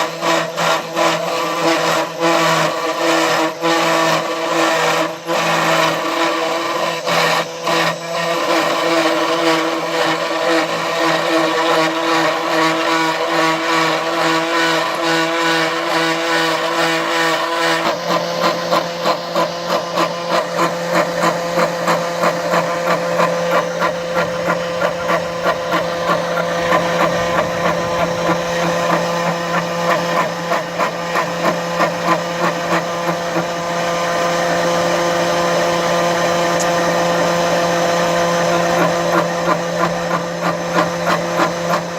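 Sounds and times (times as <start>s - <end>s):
milling machine cutting metal: 0.0s - 41.9s.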